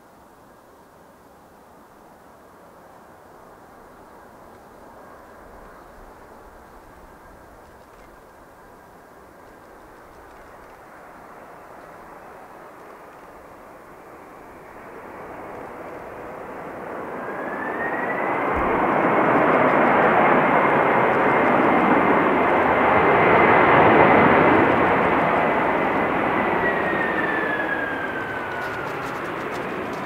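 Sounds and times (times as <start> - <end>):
high fan whine: 3.0 - 30.0
jet engine rush: 3.6 - 30.0.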